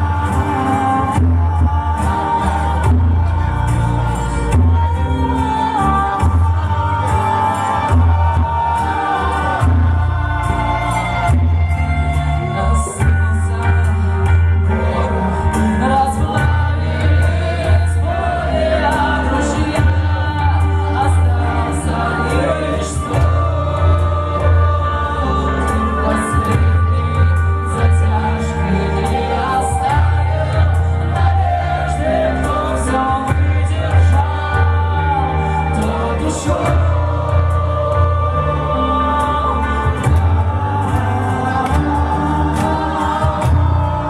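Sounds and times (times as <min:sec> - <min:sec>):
live band playing: 0:00.0 - 0:44.0
person singing: 0:00.0 - 0:44.0.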